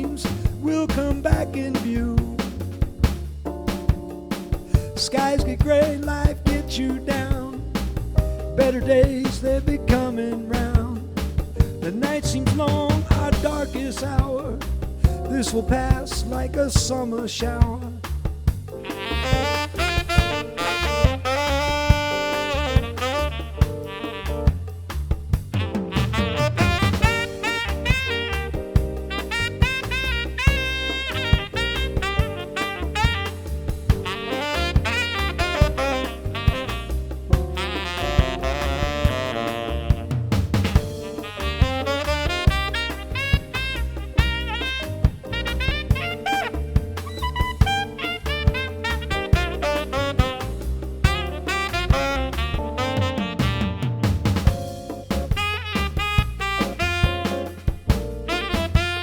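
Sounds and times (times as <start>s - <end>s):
keyboard chords: 0.0s - 9.2s, 18.7s - 59.0s
jazz saxophone solo: 0.0s - 17.9s, 18.6s - 59.0s
bass: 0.0s - 59.0s
steady drum beat: 0.0s - 59.0s.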